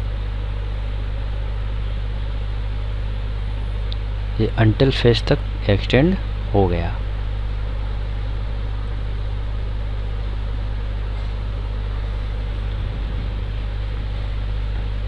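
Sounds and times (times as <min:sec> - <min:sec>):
constant hiss: 0:00.0 - 0:15.0
low electrical hum: 0:00.0 - 0:15.0.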